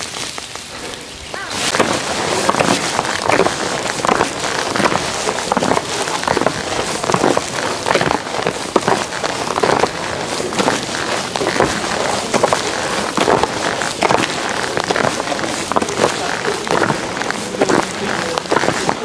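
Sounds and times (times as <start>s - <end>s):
footsteps crunching on snow: 0.0s - 19.0s.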